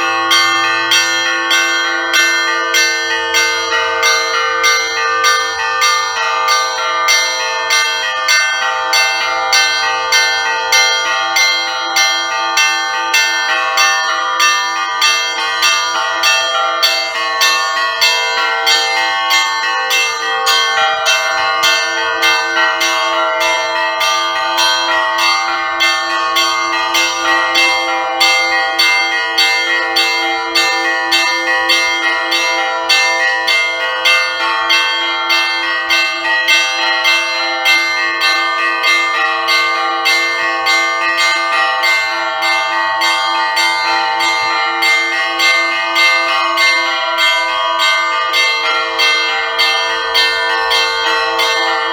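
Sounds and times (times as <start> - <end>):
small bells ringing rapidly: 0.0 - 51.9.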